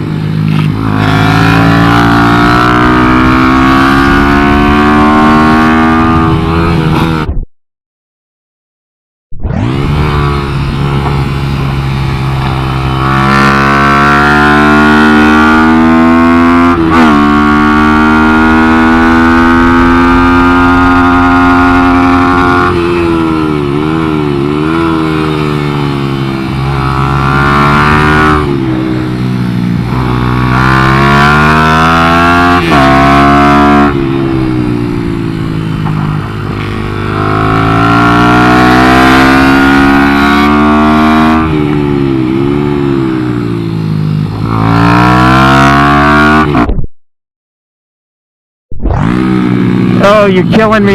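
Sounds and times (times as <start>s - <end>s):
small motorcycle engine running hard: 0.0s - 7.3s, 9.6s - 46.7s, 49.0s - 50.9s.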